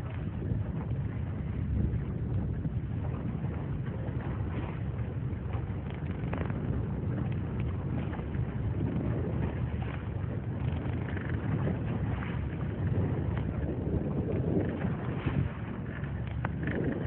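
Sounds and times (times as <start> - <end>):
boat engine: 0.0 - 17.0
water noise: 0.0 - 17.0
wind buffeting microphone: 0.0 - 17.0.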